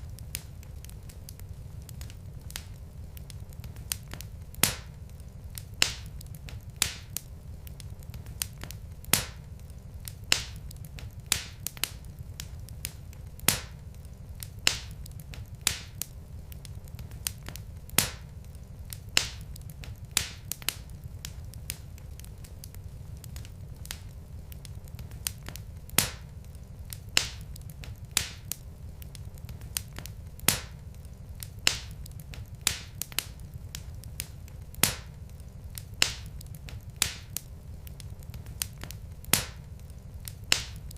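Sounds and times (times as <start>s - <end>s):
logs crackling in a fireplace: 0.0s - 40.9s.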